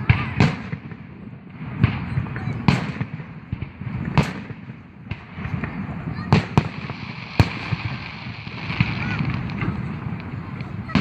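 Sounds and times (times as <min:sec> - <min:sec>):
fireworks sharp bangs: 0:00.0 - 0:11.0
low rumble of distant fireworks: 0:00.0 - 0:11.0.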